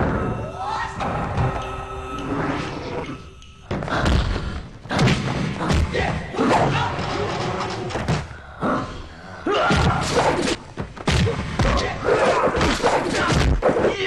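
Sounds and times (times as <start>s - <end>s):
fighters shouting and grunting: 0.0s - 3.1s, 3.8s - 14.0s.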